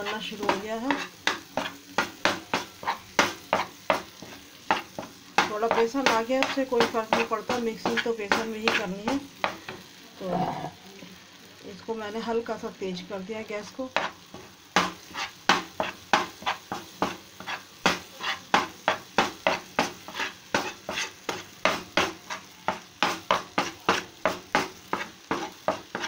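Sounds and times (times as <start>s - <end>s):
metal spatula scraping a pan: 0.0s - 10.8s, 13.9s - 26.0s
fat sizzling: 0.0s - 26.0s.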